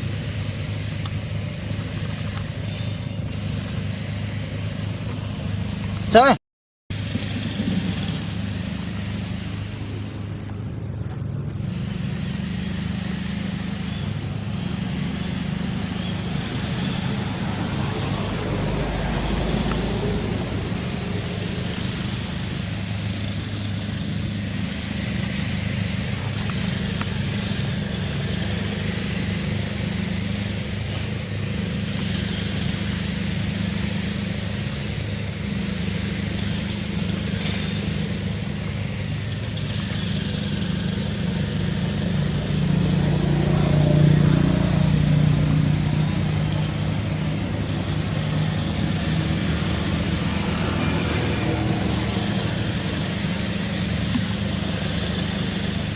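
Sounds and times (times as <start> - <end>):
low engine hum: 0.0 - 55.9.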